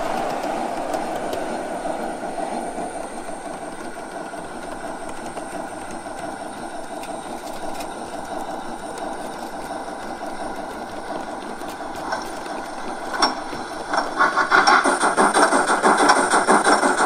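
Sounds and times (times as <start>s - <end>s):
steam locomotive chuffing: 0.0s - 17.0s
steam locomotive running sounds: 0.0s - 17.0s
wheels rolling on rails: 0.0s - 17.0s.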